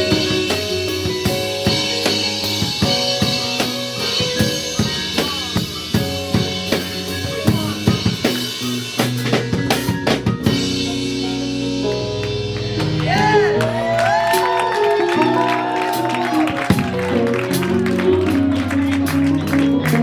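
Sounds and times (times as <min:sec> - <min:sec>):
drum kit beat: 0:00.0 - 0:20.0
held keyboard chords: 0:00.0 - 0:20.0.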